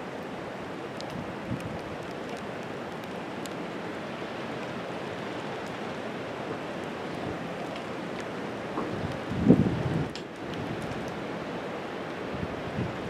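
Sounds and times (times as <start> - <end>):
wind and precipitation hiss: 0.0 - 13.0.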